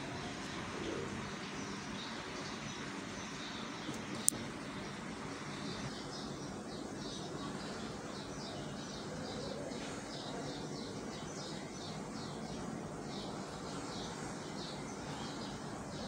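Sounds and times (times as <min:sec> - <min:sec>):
bird chirping: 0:00.0 - 0:16.0
steady low background noise: 0:00.0 - 0:16.0.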